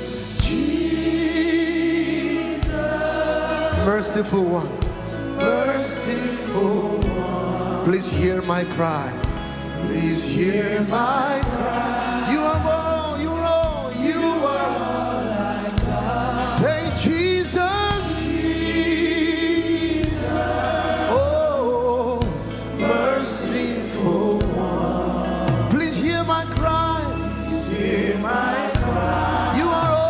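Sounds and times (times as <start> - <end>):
choir singing gospel: 0.0 - 30.0
instrumental backing with bass: 0.0 - 30.0.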